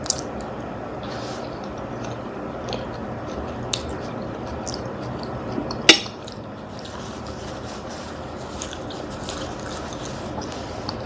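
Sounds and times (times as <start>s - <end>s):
wet chewing of food: 0.0s - 11.0s.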